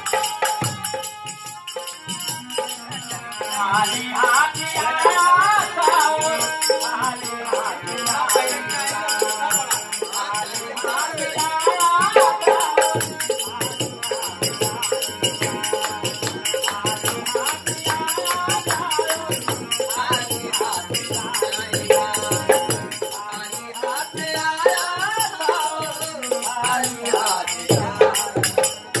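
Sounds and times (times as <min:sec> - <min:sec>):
dholak drum strokes: 0:00.0 - 0:29.0
hand cymbals: 0:00.0 - 0:29.0
harmonium: 0:00.0 - 0:29.0
man singing: 0:00.0 - 0:29.0.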